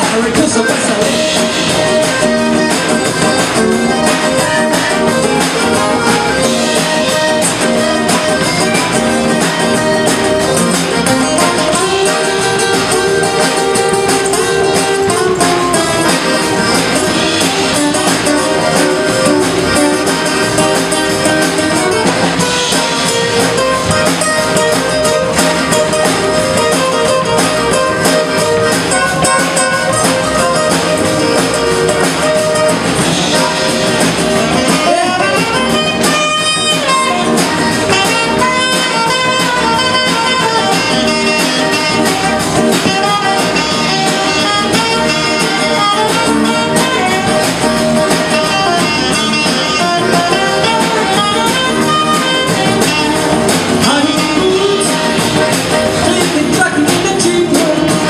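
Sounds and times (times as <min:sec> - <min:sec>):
zydeco band playing: 0:00.0 - 0:58.0.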